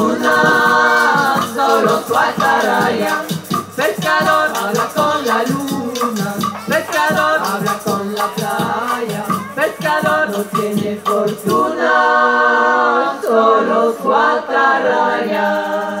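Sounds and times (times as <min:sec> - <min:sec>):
rhythmic percussion: 0:00.0 - 0:16.0
women singing in chorus: 0:00.0 - 0:16.0.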